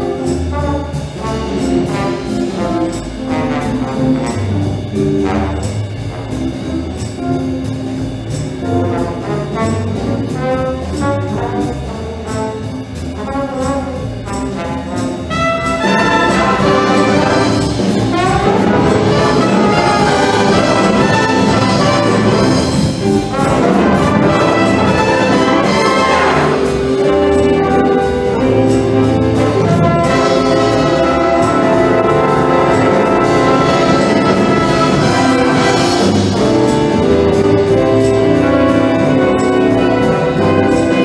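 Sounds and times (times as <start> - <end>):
brass wind band playing: 0.0 - 41.0.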